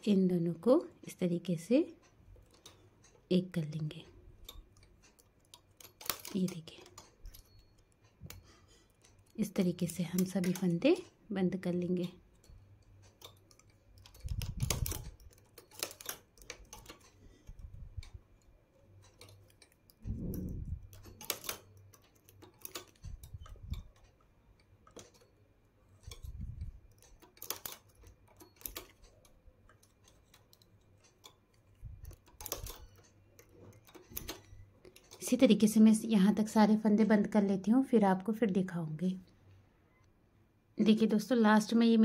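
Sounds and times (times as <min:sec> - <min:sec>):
knitting machine metallic clicks: 0:00.0 - 0:37.8.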